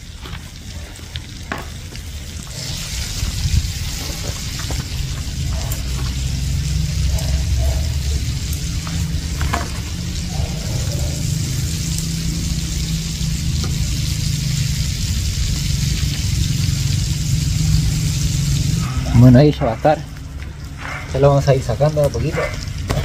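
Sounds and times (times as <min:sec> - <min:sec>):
fish frying in hot fat: 0:00.0 - 0:23.0
low rumble: 0:02.4 - 0:21.2.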